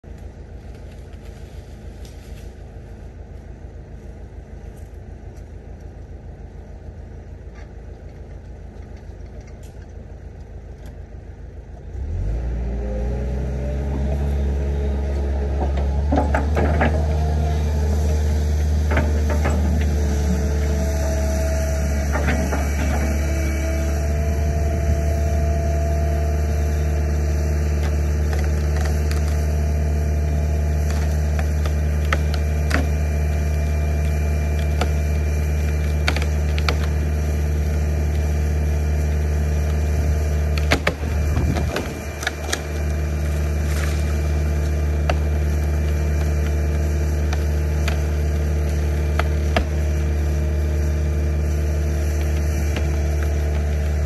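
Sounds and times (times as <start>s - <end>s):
excavator diesel engine humming: 0.0s - 54.0s.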